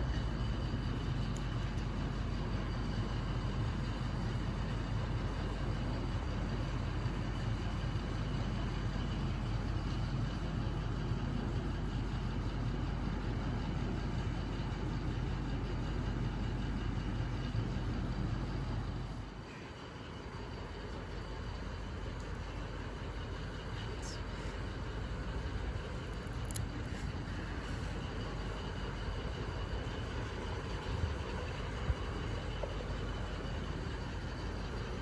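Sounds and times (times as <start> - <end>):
low rumble with hiss: 0.0 - 35.0.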